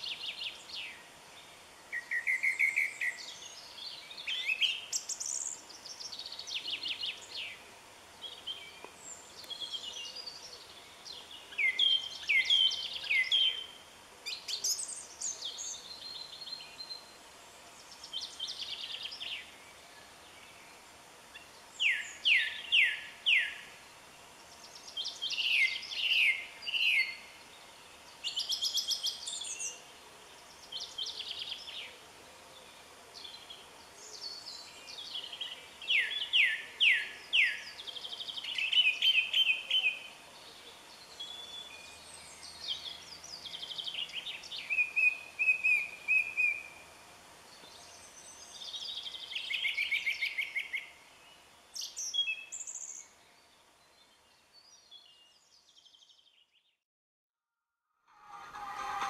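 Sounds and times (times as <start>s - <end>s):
songbirds singing: 0.0s - 56.8s.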